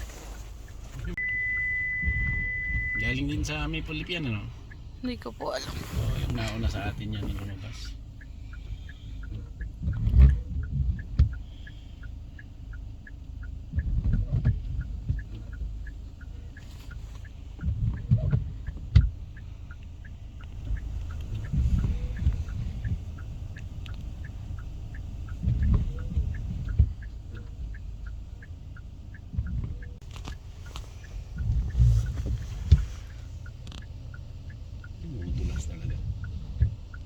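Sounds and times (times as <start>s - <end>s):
rapid ticking: 3.0s - 37.0s.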